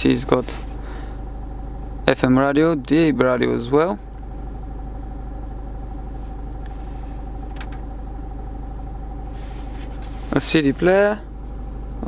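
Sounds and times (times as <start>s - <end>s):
diesel engine idling: 0.0s - 12.0s
faint steady hum: 0.0s - 12.0s.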